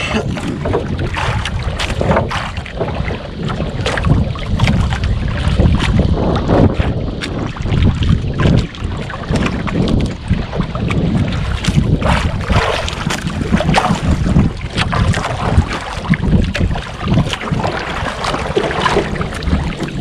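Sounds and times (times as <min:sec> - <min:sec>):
waves slapping against hull: 0:00.0 - 0:20.0
wind buffeting microphone: 0:00.0 - 0:20.0.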